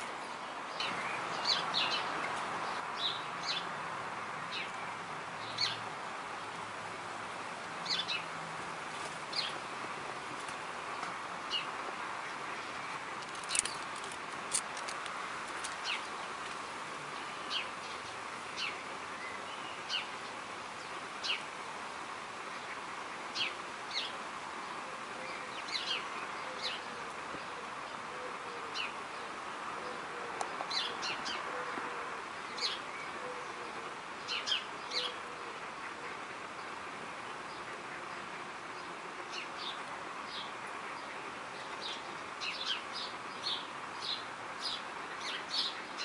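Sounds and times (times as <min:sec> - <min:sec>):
birds chirping: 0:00.0 - 0:21.7, 0:22.3 - 0:46.0
background hiss: 0:00.0 - 0:46.0.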